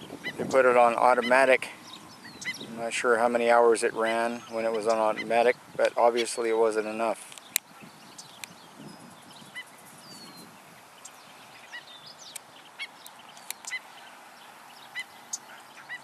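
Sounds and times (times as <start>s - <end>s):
birds yipping calls: 0.0s - 16.0s.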